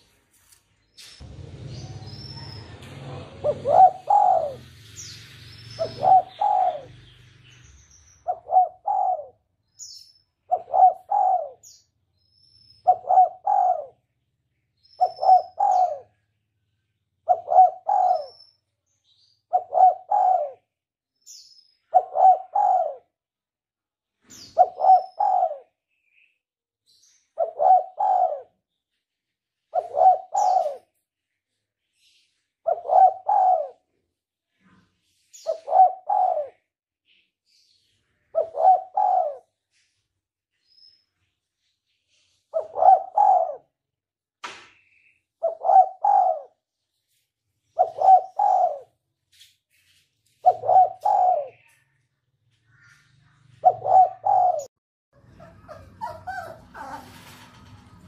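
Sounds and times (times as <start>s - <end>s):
faint high chirps of small birds: 4.2s - 22.3s, 24.1s - 43.4s, 44.6s - 58.0s.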